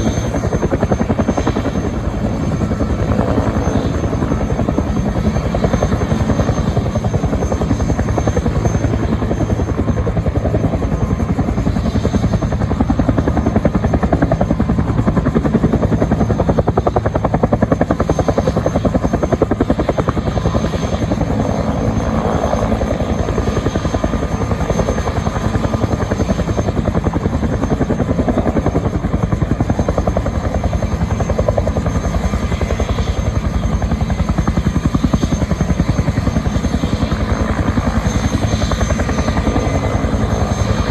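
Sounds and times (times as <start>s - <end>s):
helicopter rotor beat: 0.0s - 40.9s.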